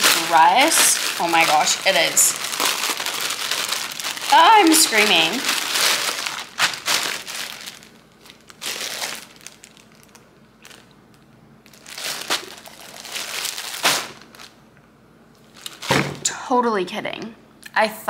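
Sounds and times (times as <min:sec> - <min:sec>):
plastic bag crinkling: 0:00.0 - 0:14.6, 0:15.4 - 0:16.2.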